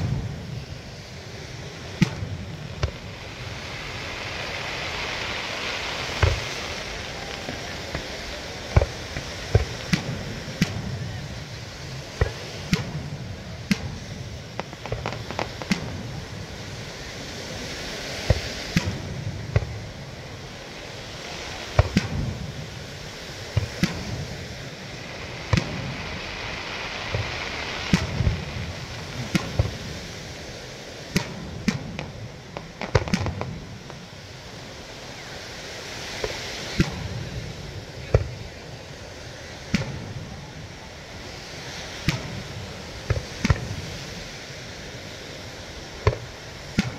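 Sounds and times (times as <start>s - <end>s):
fireworks bursting: 0.0s - 46.9s
surf on beach: 0.0s - 46.9s.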